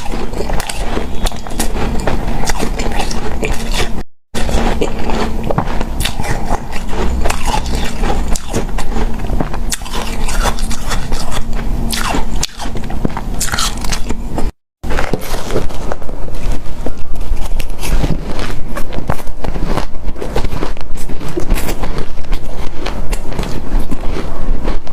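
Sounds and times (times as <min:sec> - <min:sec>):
chewing crunchy ice: 0:00.0 - 0:24.9.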